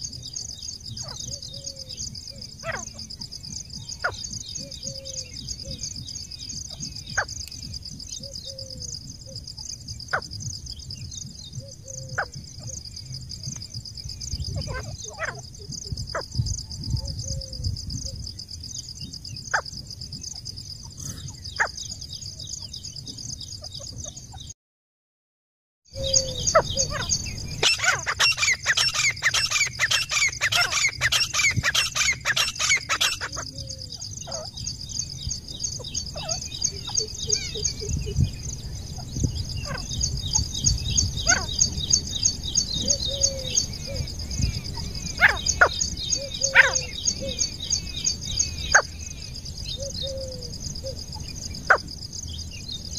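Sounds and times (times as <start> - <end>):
francolin calling: 0.0 - 24.4, 25.9 - 52.8.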